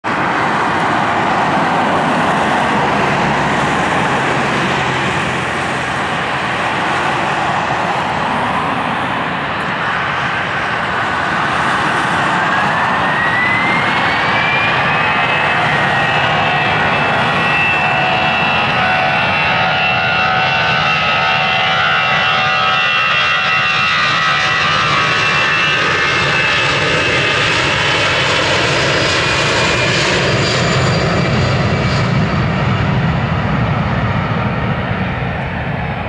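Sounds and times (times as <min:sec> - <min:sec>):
jet engines roaring: 0:00.0 - 0:36.0
engine whine rising in pitch: 0:00.1 - 0:36.0.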